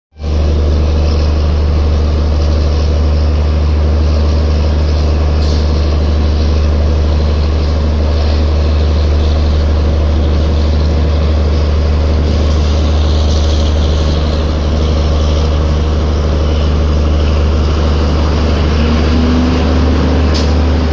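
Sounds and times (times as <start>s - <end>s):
diesel engine droning: 0.1s - 20.9s.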